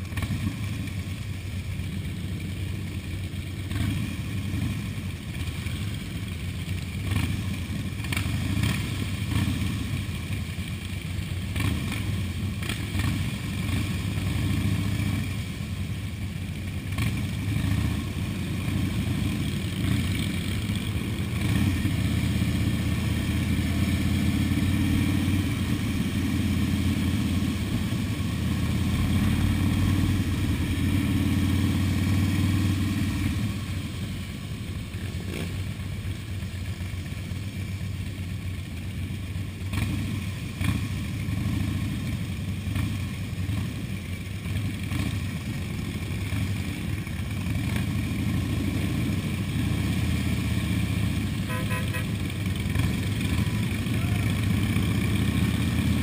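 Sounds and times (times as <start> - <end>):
motorcycle engines rumbling: 0.0 - 56.0.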